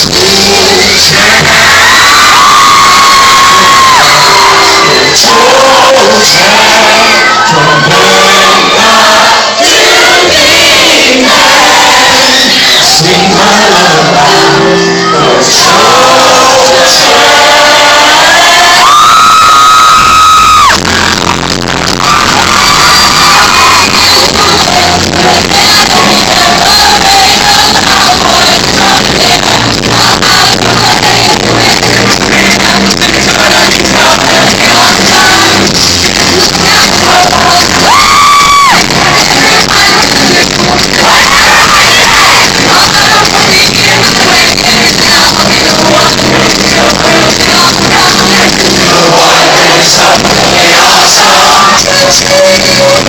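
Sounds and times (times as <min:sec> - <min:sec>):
loud distorted live pop music: 0:00.0 - 0:53.0
person singing: 0:00.0 - 0:53.0.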